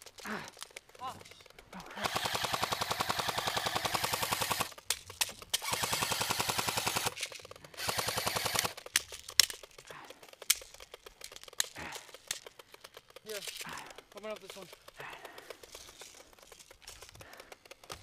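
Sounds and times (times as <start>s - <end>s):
airsoft guns firing automatic: 0.9s - 18.0s.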